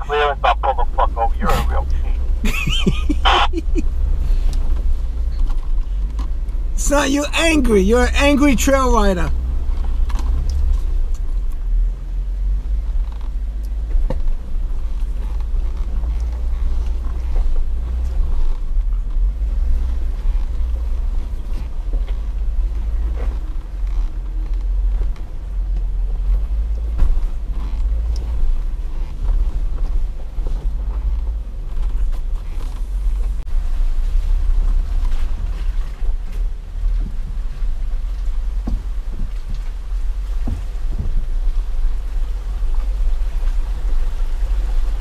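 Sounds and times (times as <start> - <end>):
off-road vehicle engine rumble: 0.0 - 45.0.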